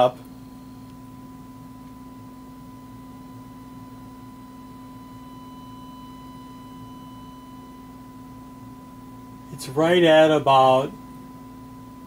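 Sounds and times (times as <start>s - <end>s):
high-pitched sine test tone: 0.0s - 12.0s
low steady hum: 0.0s - 12.0s.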